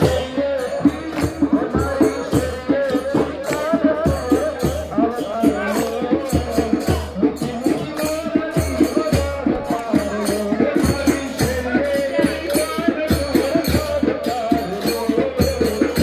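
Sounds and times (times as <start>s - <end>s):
low drum beat: 0.0s - 16.0s
rattling hand percussion: 0.0s - 16.0s
voices singing a chant: 0.0s - 16.0s.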